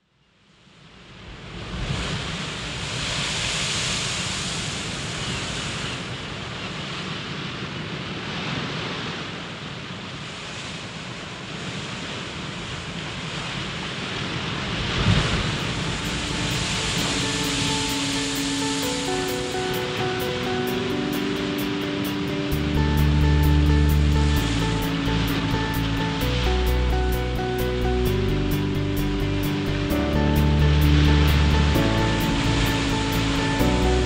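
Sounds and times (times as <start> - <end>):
waves breaking on shore: 0.7 - 34.0.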